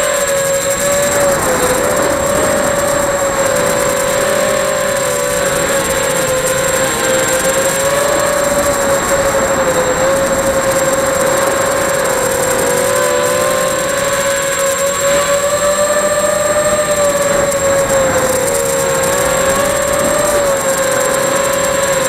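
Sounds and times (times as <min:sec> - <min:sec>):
drone motors whining: 0:00.0 - 0:22.0
thin high steady tone: 0:00.0 - 0:22.0.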